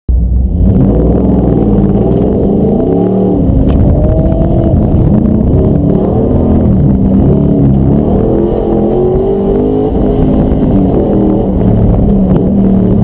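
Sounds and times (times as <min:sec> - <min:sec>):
engine accelerating hard: 0:00.2 - 0:13.0.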